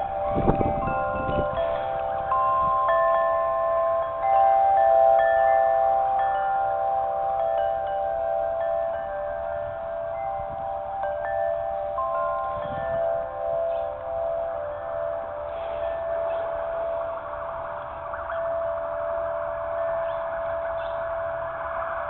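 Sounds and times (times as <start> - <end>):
wind rumble on microphone: 0.0 - 5.9, 7.4 - 22.0
wind chimes ringing: 0.0 - 22.0.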